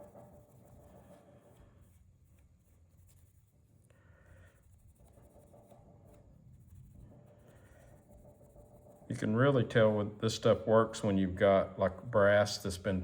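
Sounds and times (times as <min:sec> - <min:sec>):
faint rubbing and scratching: 0:00.0 - 0:13.0.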